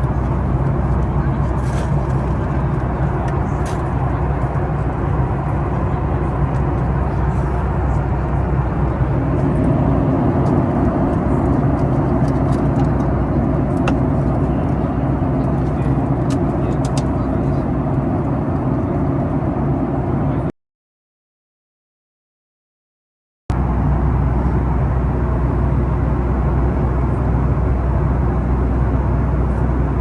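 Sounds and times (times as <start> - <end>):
airliner cabin engine rumble: 0.0 - 20.5, 23.5 - 30.0.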